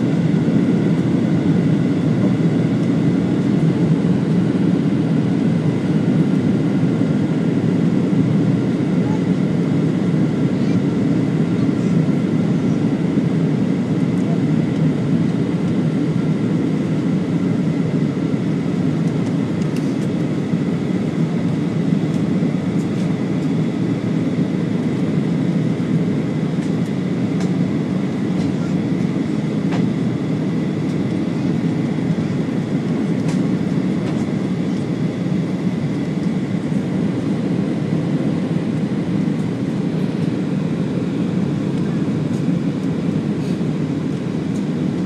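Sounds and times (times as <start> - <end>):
jet engine cabin rumble: 0.0 - 45.0.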